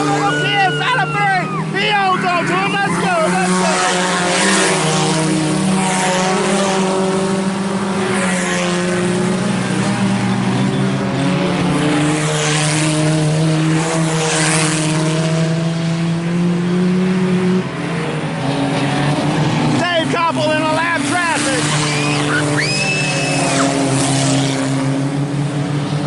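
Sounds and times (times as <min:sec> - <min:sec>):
race car engines droning: 0:00.0 - 0:26.0.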